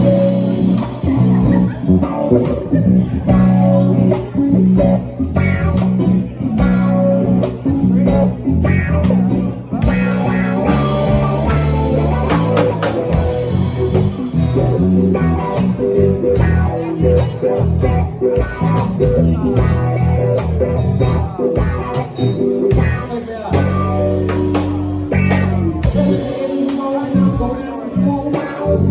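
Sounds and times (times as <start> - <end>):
bass guitar line: 0.0 - 28.9
electric guitar: 0.0 - 28.9.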